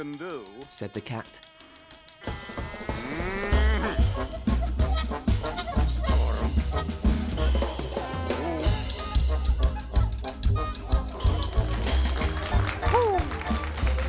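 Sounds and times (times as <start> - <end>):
music with drum beat and heavy bass: 0.0 - 14.0.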